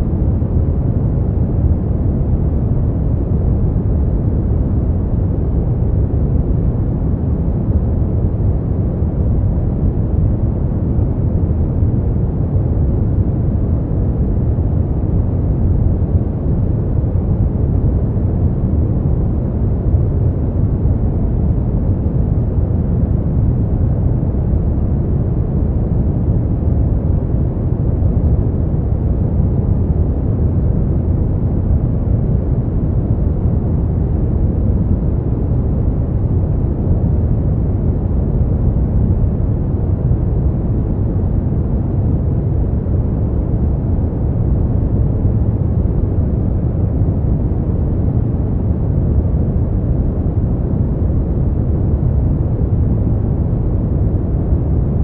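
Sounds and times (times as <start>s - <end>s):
deep white noise: 0.0s - 55.0s.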